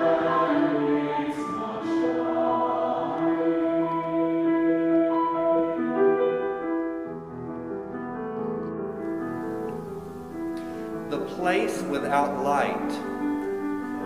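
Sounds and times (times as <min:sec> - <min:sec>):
keyboard chords church music: 0:00.0 - 0:14.0.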